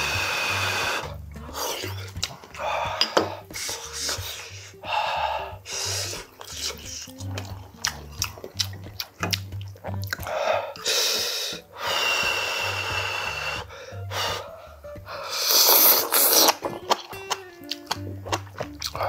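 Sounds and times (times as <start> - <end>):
slurping noodles: 0.0 - 14.6, 15.2 - 16.9
background music with bass: 0.0 - 19.0
chewing: 1.0 - 4.8, 5.7 - 11.6, 12.2 - 19.0.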